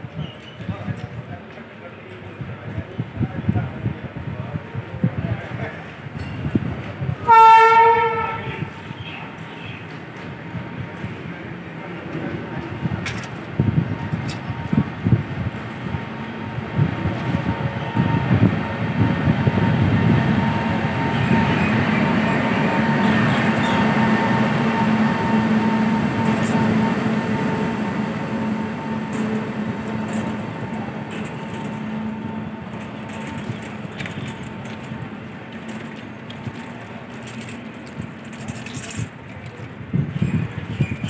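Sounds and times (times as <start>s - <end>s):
electric locomotive hum and whine: 0.0s - 41.0s
train wheel noise: 0.1s - 41.0s.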